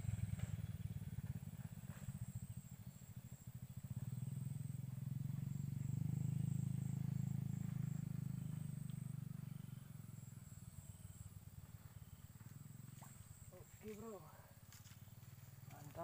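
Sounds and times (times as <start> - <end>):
vehicle engine rumble passing by: 0.0 - 16.0.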